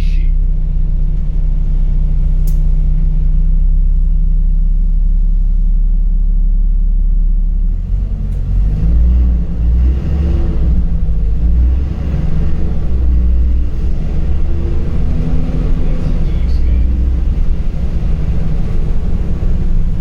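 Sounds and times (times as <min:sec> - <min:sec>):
bus engine droning: 0:00.0 - 0:20.0.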